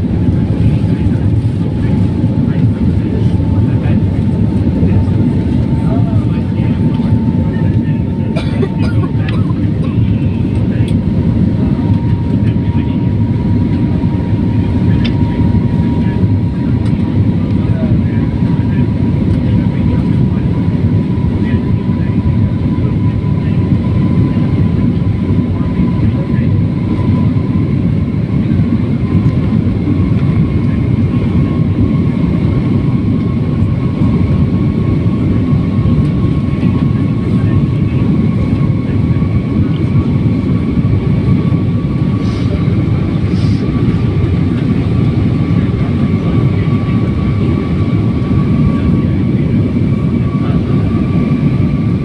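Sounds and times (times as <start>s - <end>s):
jet engine rumble and whine: 0.0s - 52.0s.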